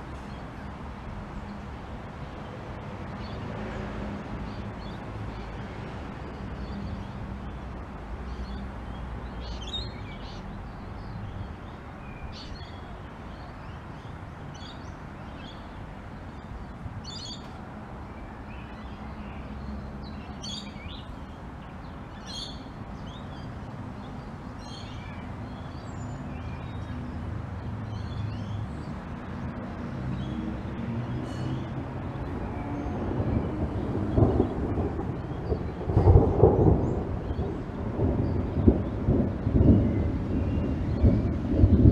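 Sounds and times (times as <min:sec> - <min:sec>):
light rain falling: 0:00.0 - 0:41.9.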